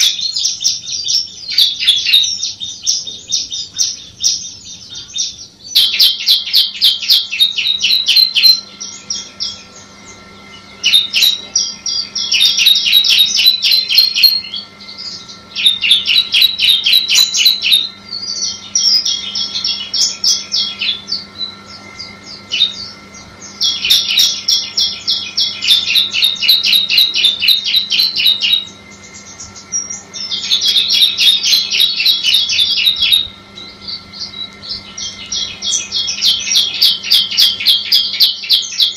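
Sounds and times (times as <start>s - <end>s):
bird singing sharp high notes: 0.0s - 38.9s.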